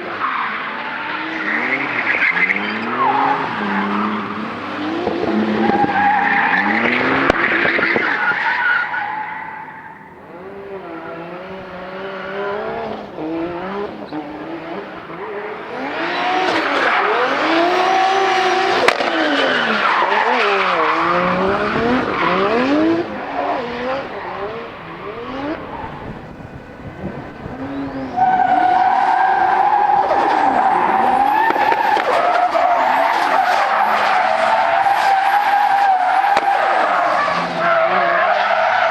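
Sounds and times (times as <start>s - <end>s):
car engines revving: 0.0s - 38.9s
tyres squealing and skidding: 0.0s - 38.9s.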